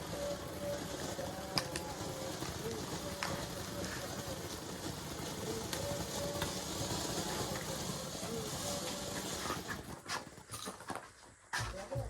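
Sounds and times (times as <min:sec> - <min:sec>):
firework hissing and sizzling: 0:00.0 - 0:11.1
firework sharp pops: 0:00.0 - 0:12.0.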